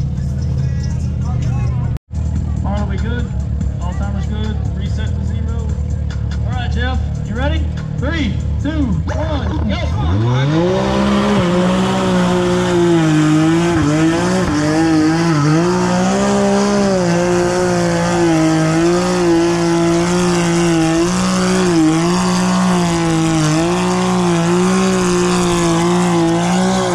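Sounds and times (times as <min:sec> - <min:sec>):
vehicle engine revving: 0:00.0 - 0:26.9.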